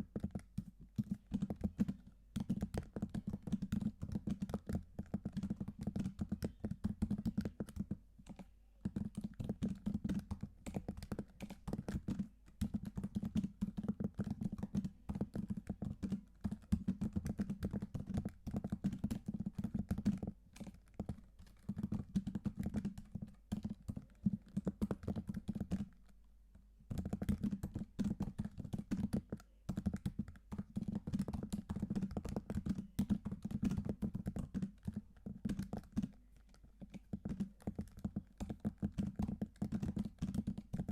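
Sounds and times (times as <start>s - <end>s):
typing on computer keyboard: 0.0s - 26.2s, 26.9s - 40.9s.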